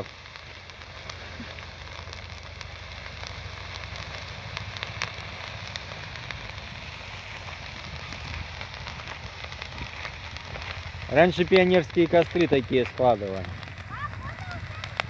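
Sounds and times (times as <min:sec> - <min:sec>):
bonfire hissing and crackling: 0:00.0 - 0:15.0.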